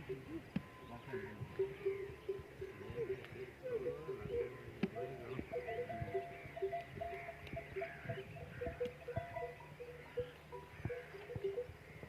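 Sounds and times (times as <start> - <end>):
camel bells clanking: 0.0 - 12.0.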